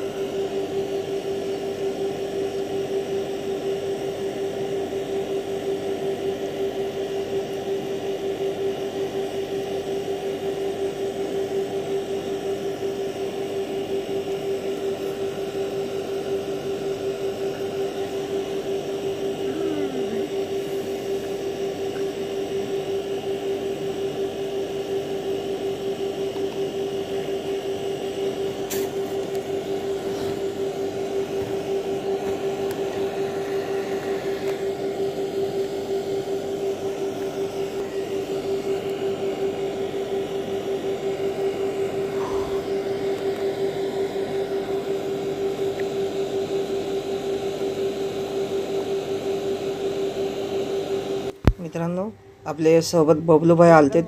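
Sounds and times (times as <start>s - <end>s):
water pump motor humming: 0.0s - 54.0s.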